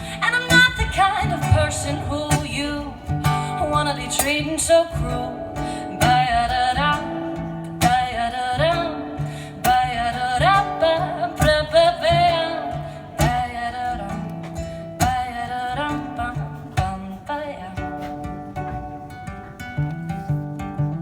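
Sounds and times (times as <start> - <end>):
ukulele strummed chords: 0.0 - 21.0
wordless sung melody: 0.0 - 21.0.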